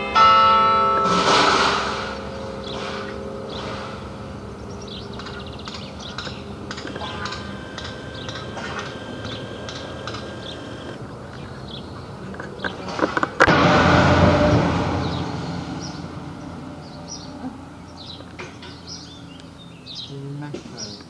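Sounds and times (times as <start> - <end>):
church bell ringing: 0.0 - 11.0, 13.5 - 19.5.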